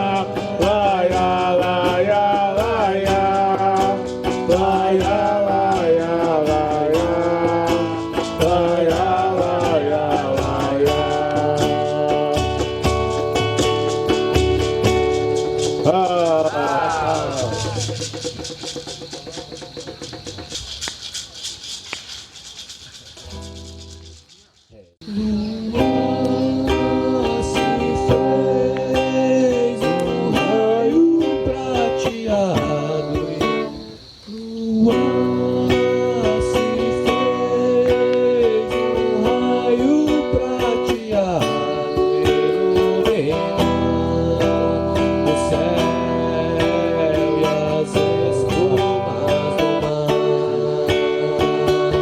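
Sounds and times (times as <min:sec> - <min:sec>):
person singing: 0:00.0 - 0:14.6, 0:15.6 - 0:18.1, 0:25.0 - 0:52.0
acoustic guitar strumming: 0:00.0 - 0:20.6, 0:25.0 - 0:34.1, 0:34.7 - 0:52.0.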